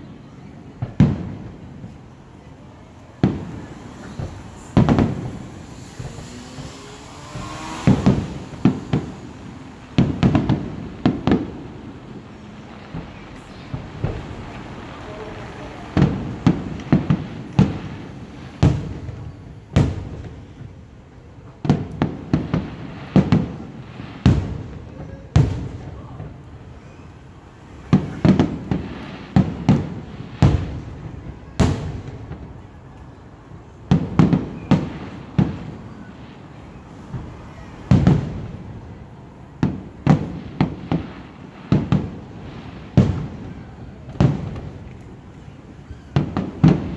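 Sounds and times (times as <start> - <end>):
fireworks bursting with bangs: 0.0 - 46.9.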